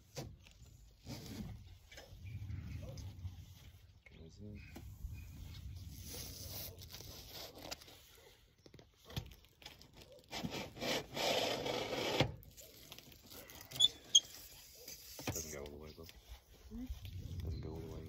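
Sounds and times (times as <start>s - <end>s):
canvas rubbing and scraping: 0.0s - 8.4s, 10.2s - 18.0s.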